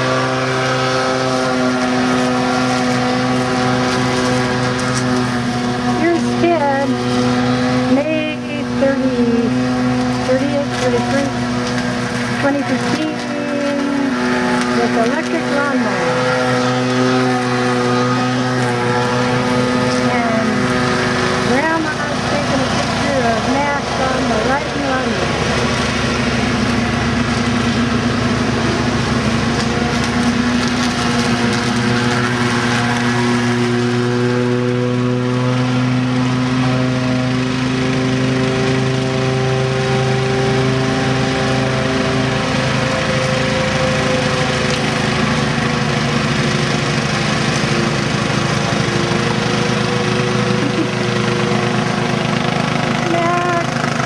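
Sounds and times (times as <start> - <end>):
electric push mower running: 0.0 - 54.0
lawn tractor engine running: 0.0 - 54.0.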